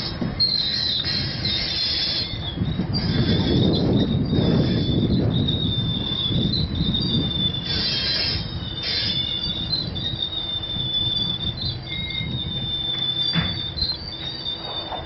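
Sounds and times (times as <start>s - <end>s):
harsh wheel screeches: 0.0s - 15.0s
steel wheels squealing: 0.0s - 15.0s
train low rumble: 0.0s - 15.0s.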